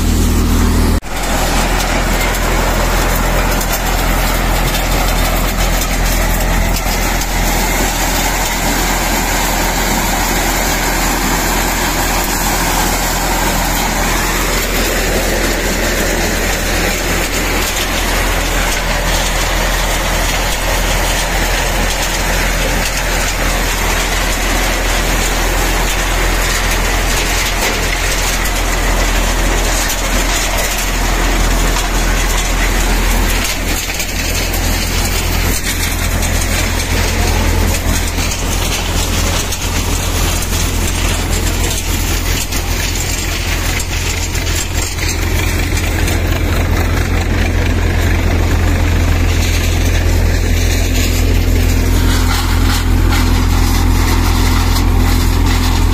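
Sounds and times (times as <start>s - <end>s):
maize thresher running: 0.0s - 55.9s.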